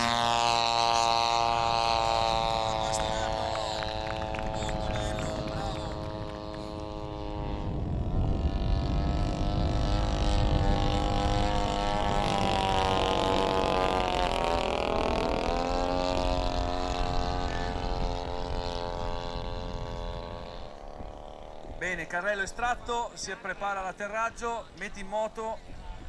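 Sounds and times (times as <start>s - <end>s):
model plane propeller engine: 0.0s - 23.5s.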